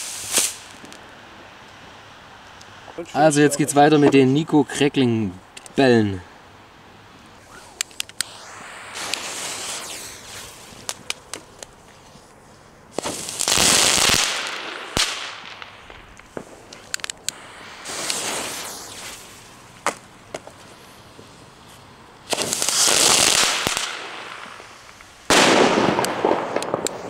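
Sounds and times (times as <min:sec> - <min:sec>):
fireworks crackling pops: 0:00.0 - 0:03.2, 0:05.4 - 0:27.0
fireworks hissing bursts: 0:00.0 - 0:27.0.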